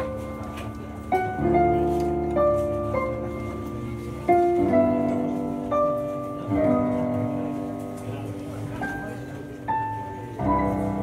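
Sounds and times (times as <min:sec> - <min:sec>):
slow solo piano: 0:00.0 - 0:11.0.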